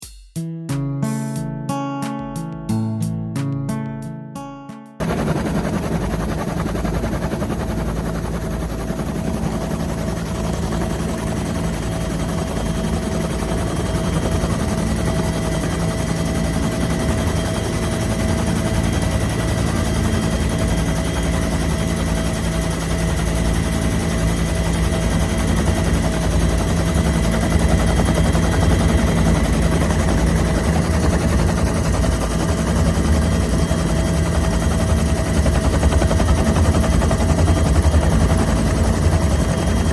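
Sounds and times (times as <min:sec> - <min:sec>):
helicopter rotor chop: 0:05.0 - 0:39.9
mechanical whine: 0:05.0 - 0:39.9.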